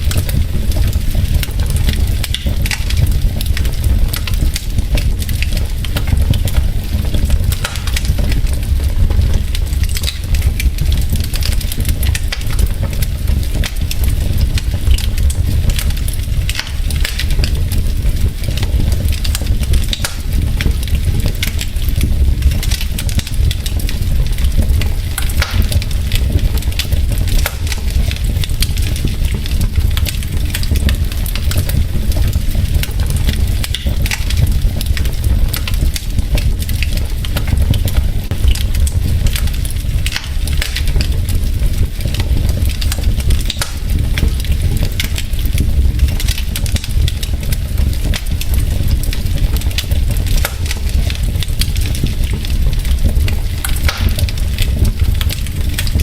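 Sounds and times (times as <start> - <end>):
wood logs burning crackling: 0.0 - 56.0.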